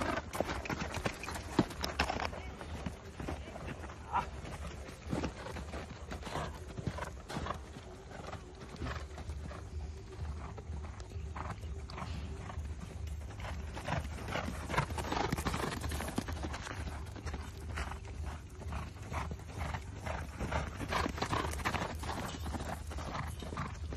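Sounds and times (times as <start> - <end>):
horse hoofbeats on sand: 0.0 - 23.9.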